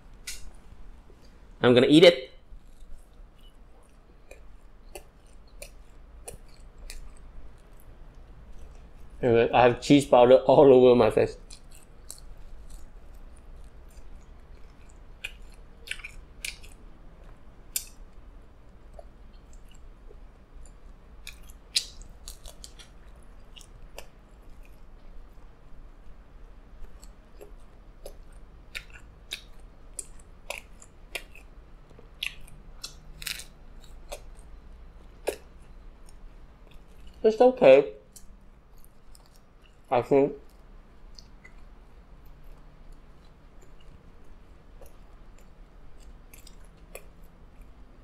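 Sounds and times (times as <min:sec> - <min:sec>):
person chewing crunchy crust: 0:02.4 - 0:09.3, 0:11.0 - 0:37.2, 0:38.0 - 0:48.0.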